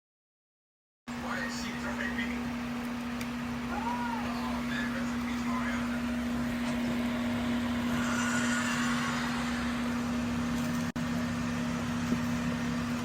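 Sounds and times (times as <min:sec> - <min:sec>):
small electric fan humming: 0:01.1 - 0:13.0.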